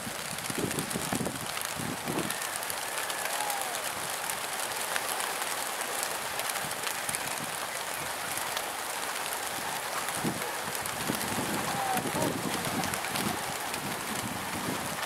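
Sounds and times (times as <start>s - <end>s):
pigeon wings flapping: 0.0s - 15.0s.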